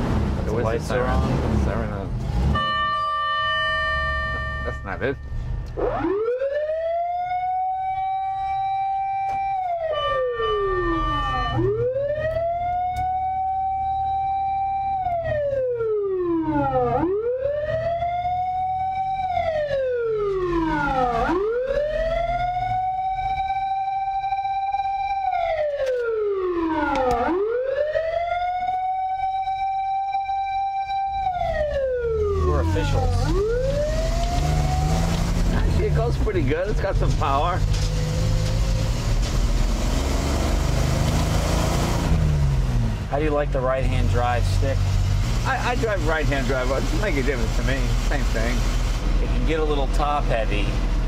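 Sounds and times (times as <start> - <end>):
road noise: 0.0 - 51.0
truck engine rumble: 0.0 - 51.0
fire truck siren wailing: 2.3 - 51.0.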